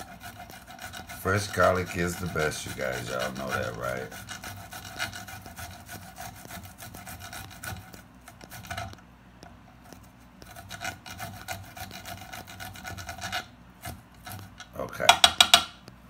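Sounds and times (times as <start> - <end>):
garlic grated on metal grater: 0.0 - 15.6.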